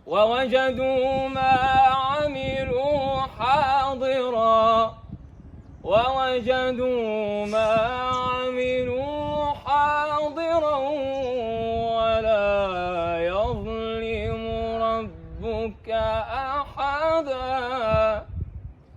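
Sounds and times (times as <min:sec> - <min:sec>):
man reciting melodically: 0:00.0 - 0:05.2, 0:05.8 - 0:18.4.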